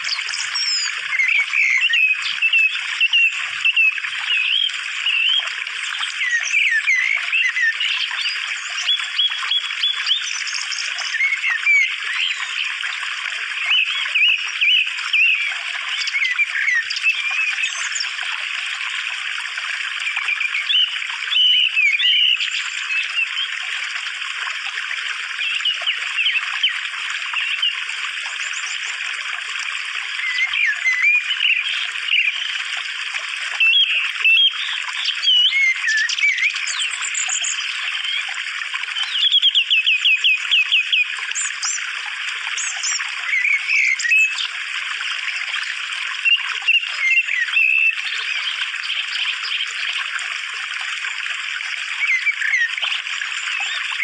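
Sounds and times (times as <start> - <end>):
small birds singing: 0.0 - 29.2, 29.8 - 50.4, 51.5 - 54.0
trickle of running water: 0.0 - 54.0.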